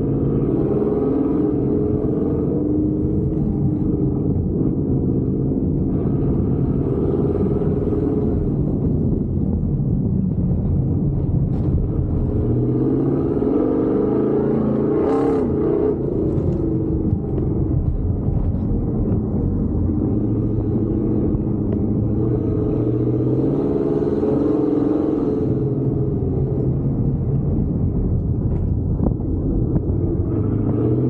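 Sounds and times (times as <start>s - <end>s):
engine revving: 0.0s - 9.4s, 11.1s - 28.7s, 29.4s - 31.0s.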